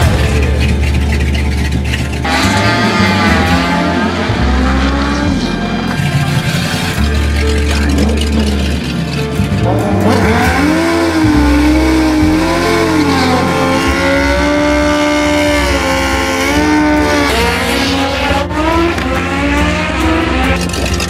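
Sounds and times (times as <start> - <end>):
motorcycle engines revving hard: 0.0 - 21.0
tyres spinning: 0.0 - 21.0.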